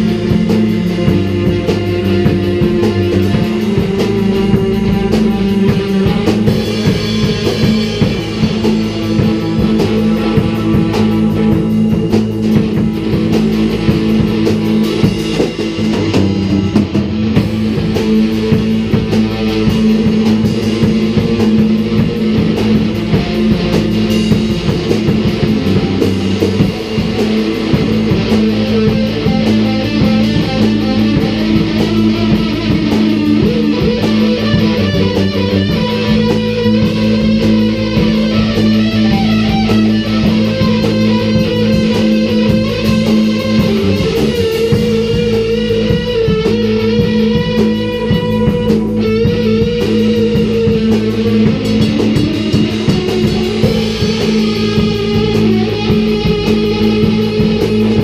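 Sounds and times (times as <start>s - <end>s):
bass guitar: 0.0s - 58.0s
drum kit cymbal beat: 0.0s - 58.0s
electric guitar long notes: 0.0s - 58.0s.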